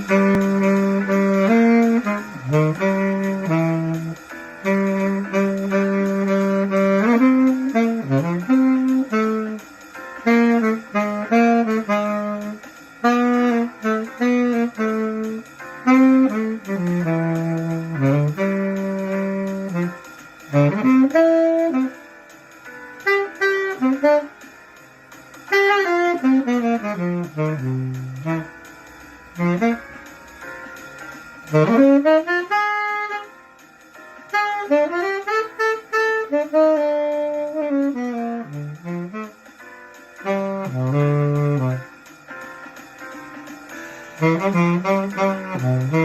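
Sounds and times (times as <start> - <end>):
wind instrument playing jazz: 0.0 - 24.7, 25.5 - 42.7, 43.7 - 46.0.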